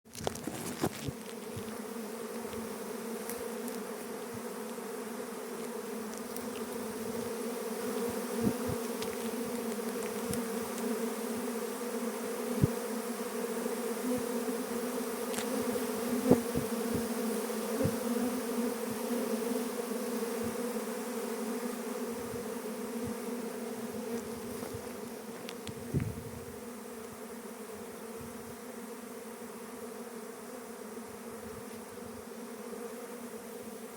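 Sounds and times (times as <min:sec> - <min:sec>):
bee buzzing: 0:00.1 - 0:33.9.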